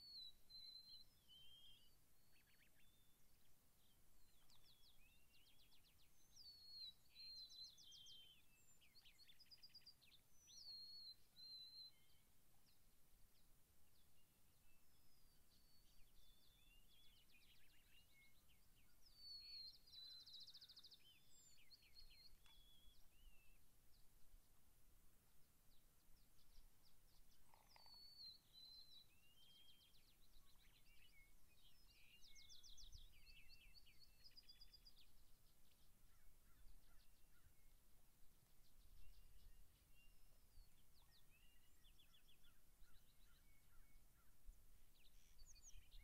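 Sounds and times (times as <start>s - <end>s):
songbirds singing: 0.0s - 46.0s.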